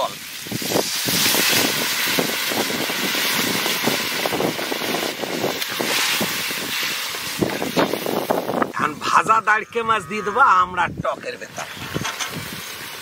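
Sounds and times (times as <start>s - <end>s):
hot oil sizzling: 0.0s - 9.8s, 11.4s - 13.0s.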